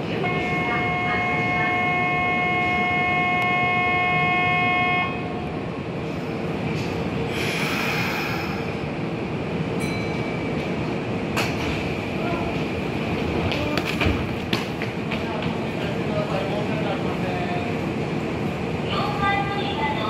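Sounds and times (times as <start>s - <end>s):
train humming: 0.0s - 20.0s.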